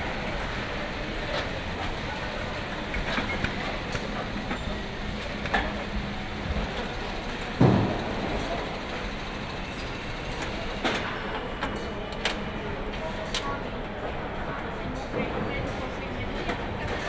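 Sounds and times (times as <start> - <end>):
mechanical hum and hiss: 0.0 - 17.0.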